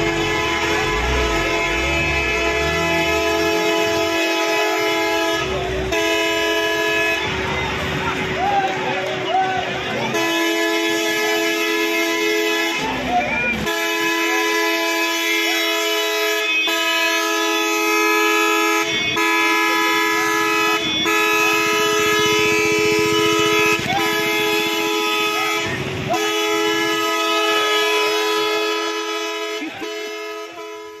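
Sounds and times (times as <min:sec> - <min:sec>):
vehicle horn blaring: 0:00.0 - 0:08.5, 0:09.1 - 0:31.0.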